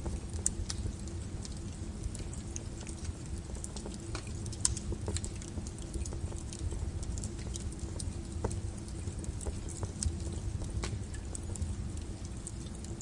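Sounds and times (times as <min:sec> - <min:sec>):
burning wood crackling: 0:00.0 - 0:13.0
low fire rumble: 0:00.0 - 0:13.0.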